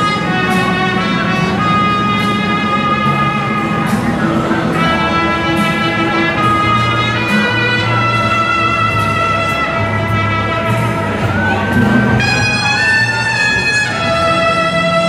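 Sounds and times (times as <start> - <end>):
instrumental music with held notes: 0.0 - 15.0.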